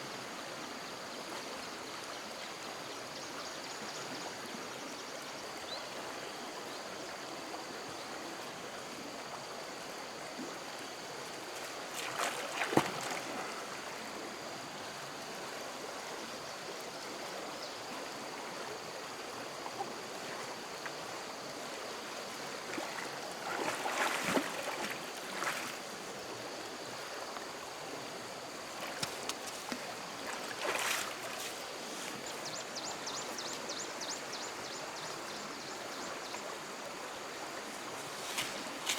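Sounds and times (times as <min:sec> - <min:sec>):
stream water rushing: 0:06.0 - 0:38.9.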